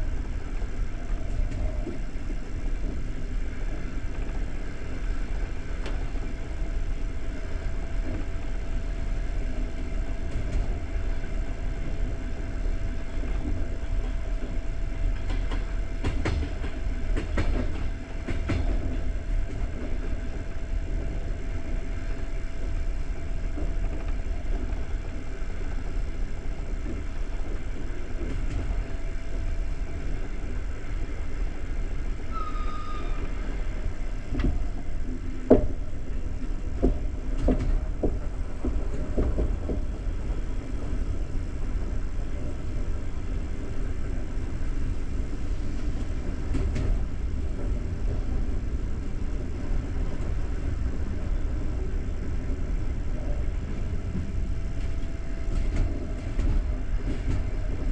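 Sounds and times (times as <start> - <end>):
train clicks: 0.0 - 32.6, 33.2 - 57.9
train wheels rumbling on track: 0.0 - 57.9.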